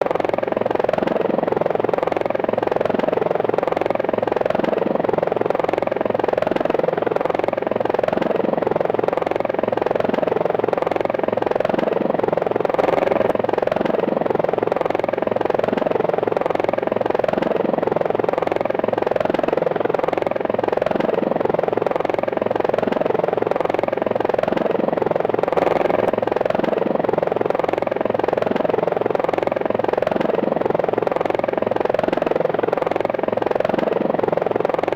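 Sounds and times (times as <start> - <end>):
helicopter rotor beating: 0.0 - 34.9.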